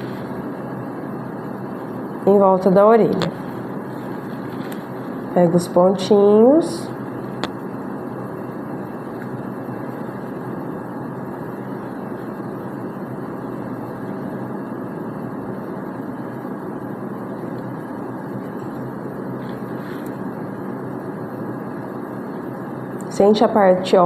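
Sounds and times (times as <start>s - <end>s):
steady fan hum: 0.0s - 24.0s.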